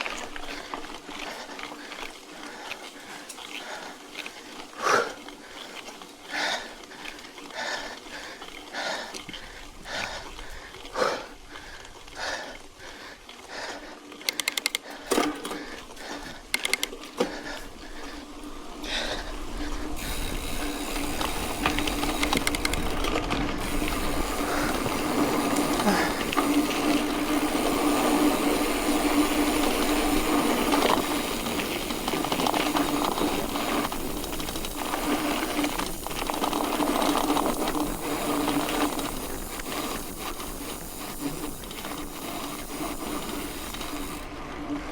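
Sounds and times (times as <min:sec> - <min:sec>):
bike clicks: 0:00.0 - 0:44.9
bike tyres rolling on dirt: 0:00.0 - 0:44.9.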